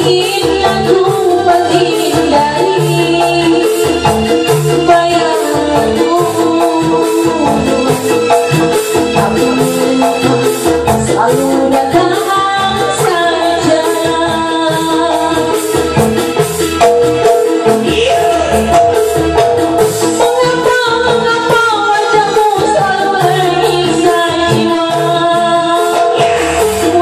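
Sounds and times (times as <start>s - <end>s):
loud backing music track: 0.0s - 27.0s
woman singing into a microphone: 0.0s - 27.0s.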